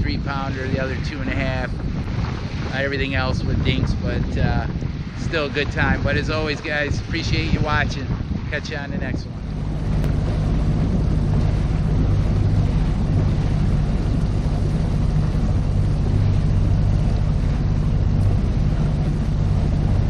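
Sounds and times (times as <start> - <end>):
constant low hum: 0.0 - 20.0
wind buffeting microphone: 0.0 - 20.0.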